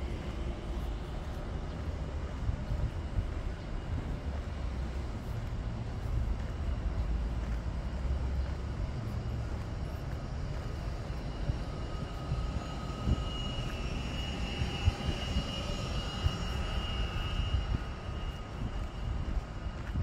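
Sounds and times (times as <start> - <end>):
jet aircraft whine: 0.0 - 20.0
low rumble: 0.0 - 20.0.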